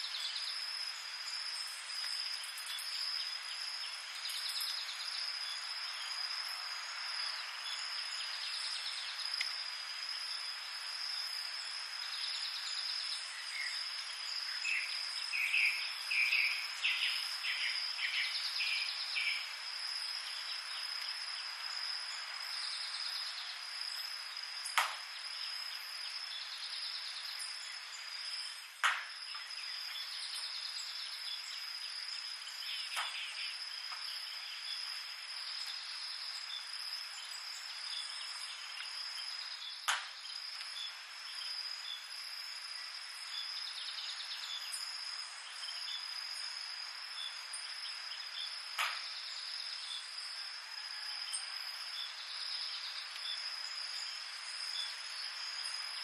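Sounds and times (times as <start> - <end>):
pulsing insect trill: 0.0 - 56.0.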